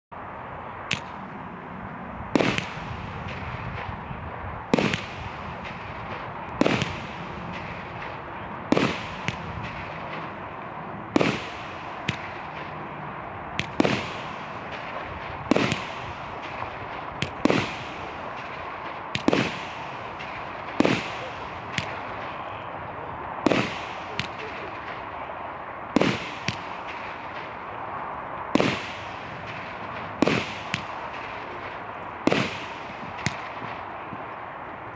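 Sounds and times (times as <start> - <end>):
firework bangs: 2.3 - 22.6, 23.4 - 34.3.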